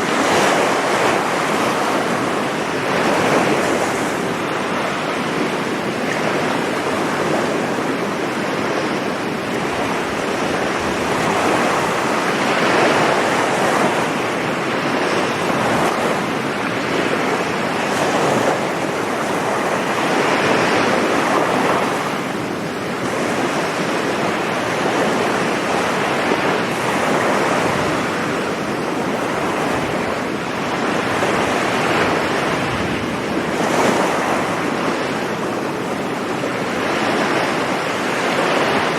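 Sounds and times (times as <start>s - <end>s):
sea waves breaking on sand: 0.0s - 38.9s
wind buffeting microphone: 0.0s - 38.9s.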